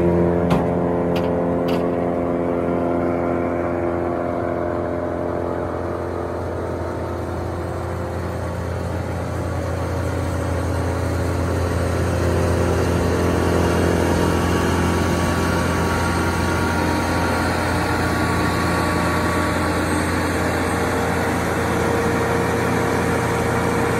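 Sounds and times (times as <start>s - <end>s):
brush chipper engine hum: 0.0s - 23.9s.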